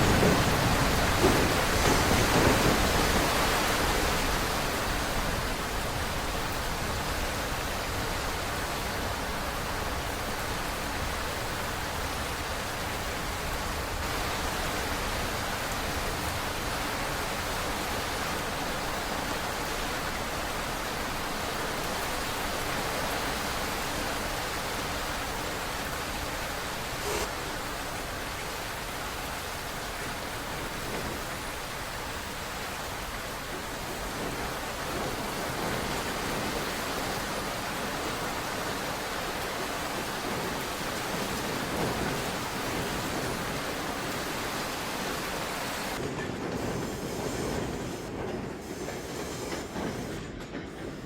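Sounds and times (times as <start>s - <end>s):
subway train: 0.0s - 51.0s.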